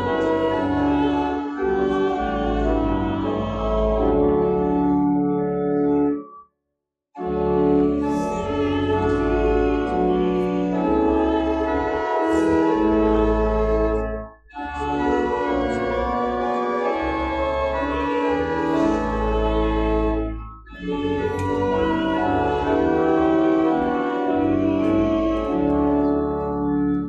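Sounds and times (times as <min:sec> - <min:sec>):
church organ playing slow chords: 0:00.0 - 0:06.2, 0:07.2 - 0:27.0.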